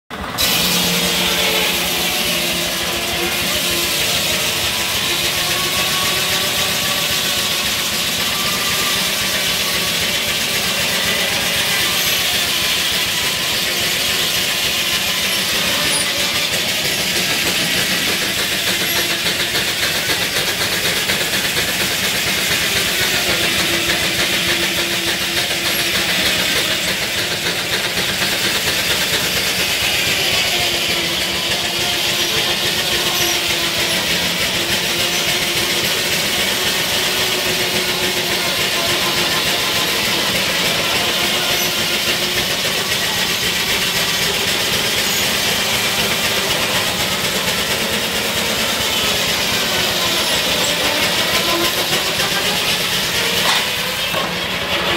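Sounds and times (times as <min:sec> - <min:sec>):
steam engine and sawmill clatter: 0:00.0 - 0:54.9.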